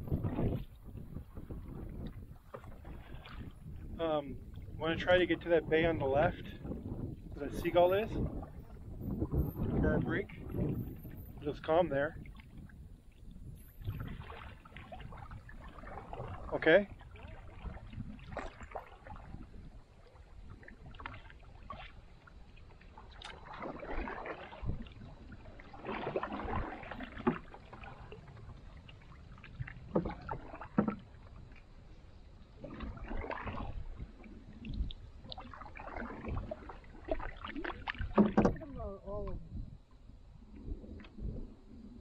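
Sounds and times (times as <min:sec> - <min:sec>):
canoe paddles splashing: 0:00.0 - 0:42.0.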